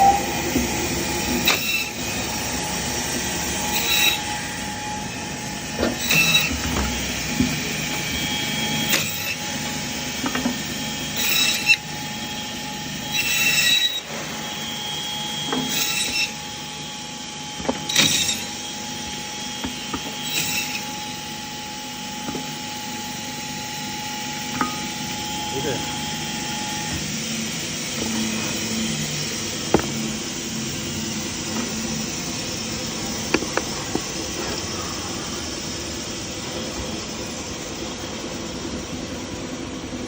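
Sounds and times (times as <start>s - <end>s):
band saw humming: 0.0s - 37.3s.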